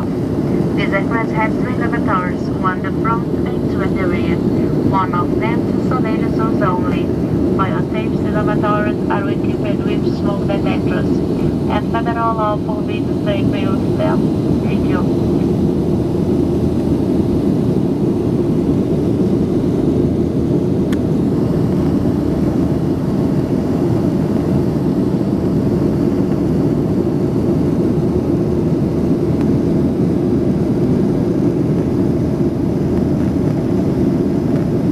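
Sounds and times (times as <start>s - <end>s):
jet engine roar in cabin: 0.0s - 34.9s.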